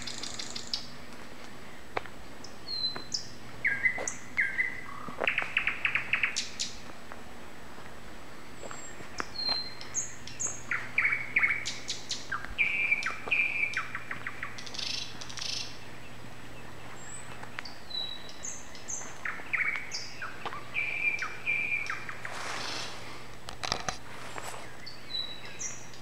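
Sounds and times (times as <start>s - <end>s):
faint steady low hum: 0.0s - 26.0s
songbird singing: 0.0s - 26.0s.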